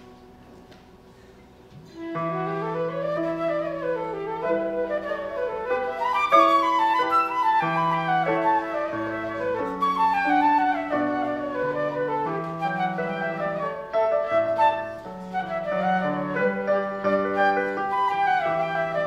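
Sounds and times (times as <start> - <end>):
flute melody: 1.9 - 19.0.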